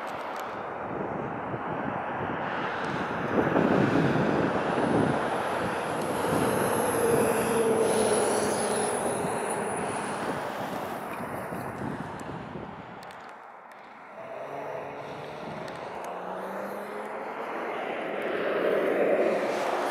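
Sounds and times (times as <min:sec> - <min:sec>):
motor vehicle passing: 0:02.7 - 0:19.9.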